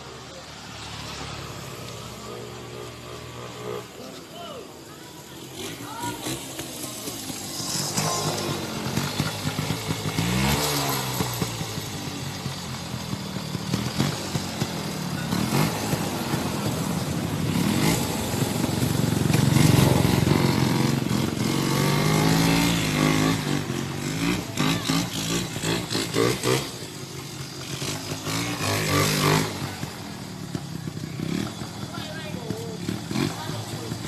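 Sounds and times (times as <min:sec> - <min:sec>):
motorcycles passing by: 0:00.0 - 0:34.0.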